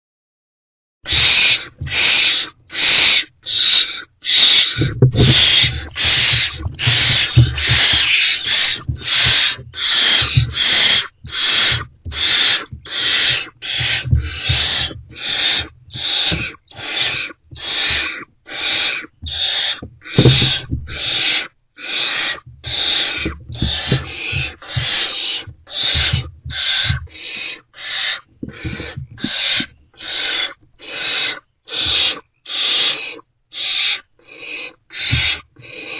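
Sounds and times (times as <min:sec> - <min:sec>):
owlets hissing begging calls: 0:01.1 - 0:35.9.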